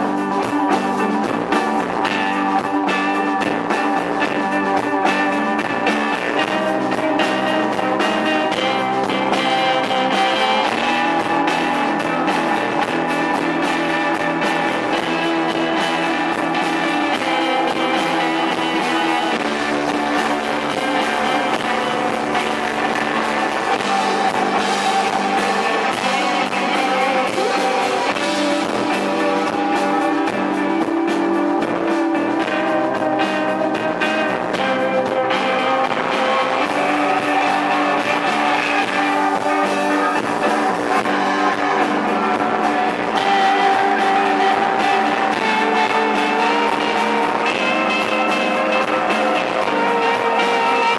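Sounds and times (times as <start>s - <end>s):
drums and cymbals: 0.0s - 50.9s
electric guitars ringing: 0.0s - 50.9s.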